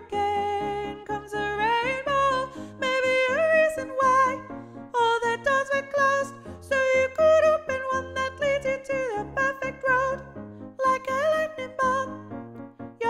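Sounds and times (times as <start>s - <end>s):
piano playing repeated chords: 0.0s - 13.0s.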